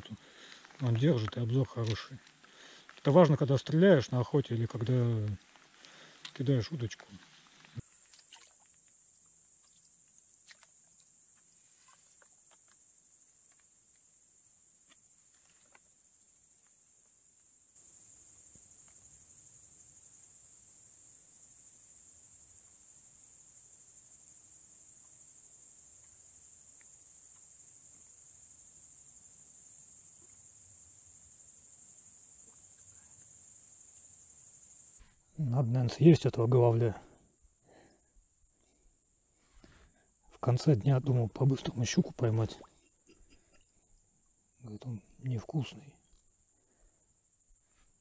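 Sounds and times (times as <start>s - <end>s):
insects singing chorus: 0.0s - 48.0s.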